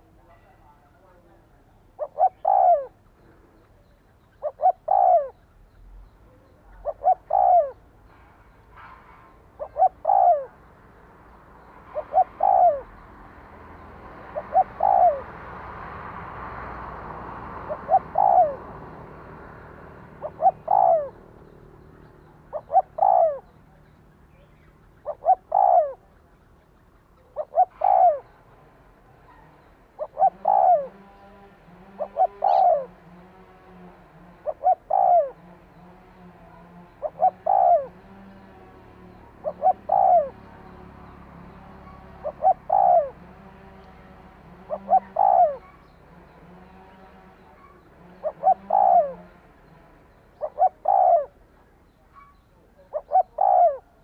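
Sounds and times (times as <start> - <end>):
dove cooing: 0.0 - 5.7, 6.3 - 8.0, 8.6 - 54.0.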